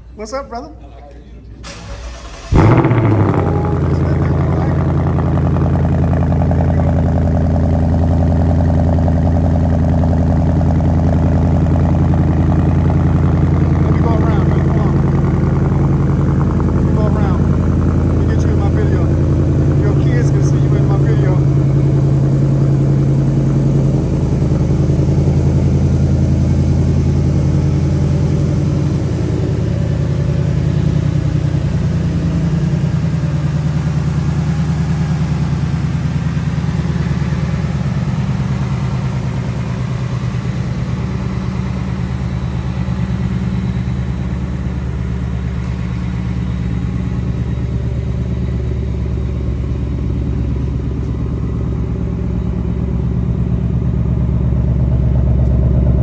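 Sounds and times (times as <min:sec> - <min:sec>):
car engine idling: 0:01.5 - 0:56.0.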